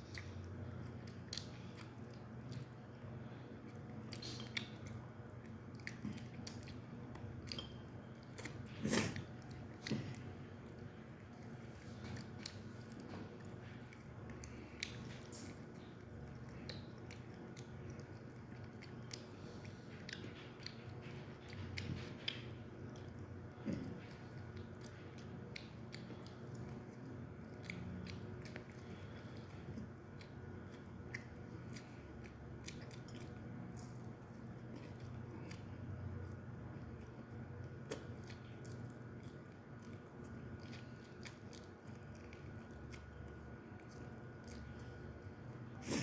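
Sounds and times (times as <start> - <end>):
low steady hum: 0.0 - 46.0
person chewing food: 0.0 - 46.0
eating clicks and smacks: 3.6 - 45.6.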